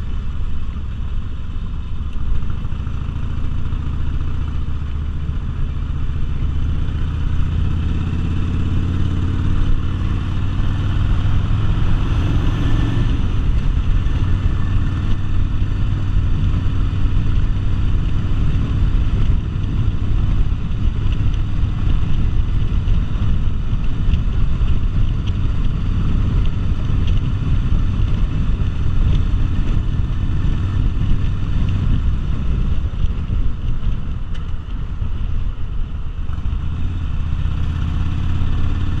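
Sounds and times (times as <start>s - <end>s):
motorcycle engine running: 0.0s - 39.0s
wind rush: 6.2s - 39.0s.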